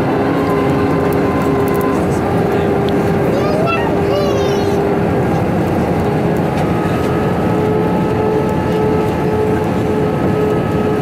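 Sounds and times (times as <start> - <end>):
airliner cabin engine roar: 0.0 - 11.0.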